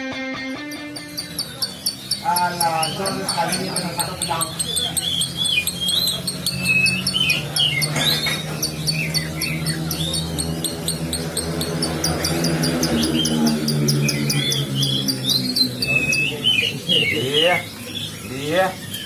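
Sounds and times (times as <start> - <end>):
lovebird chattering chirps: 0.5 - 19.0.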